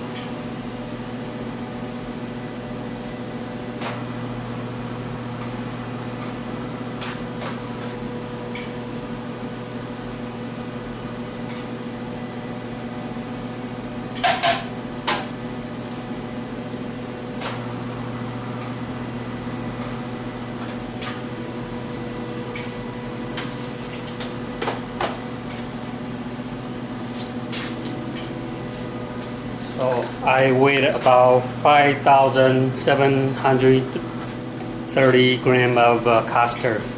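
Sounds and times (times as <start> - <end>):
machine hum: 0.0 - 36.9.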